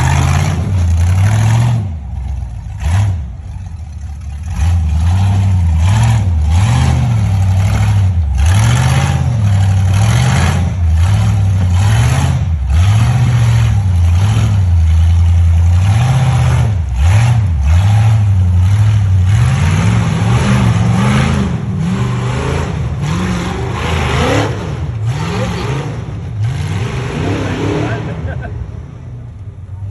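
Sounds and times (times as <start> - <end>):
off-road vehicle engine revving: 0.0 - 29.9.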